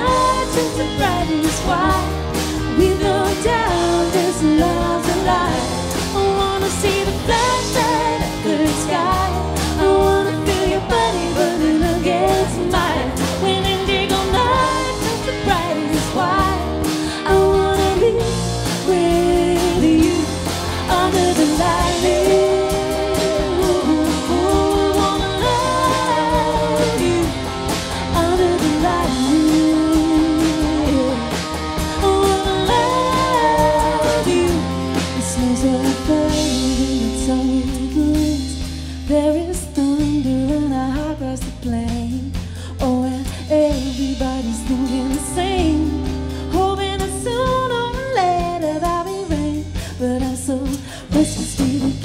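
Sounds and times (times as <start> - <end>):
drum kit: 0.0 - 52.0
electric bass guitar: 0.0 - 52.0
woman singing: 0.0 - 52.0.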